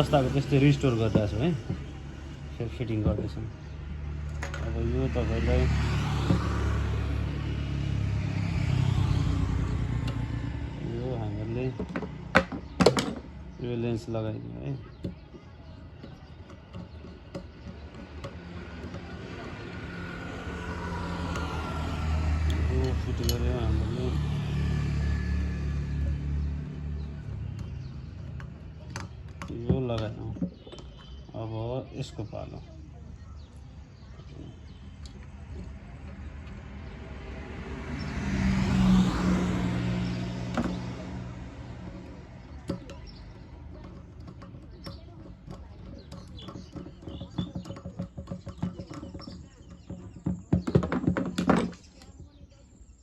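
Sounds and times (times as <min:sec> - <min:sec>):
vehicle passing by: 0:00.0 - 0:14.9, 0:18.0 - 0:30.4, 0:31.9 - 0:50.4.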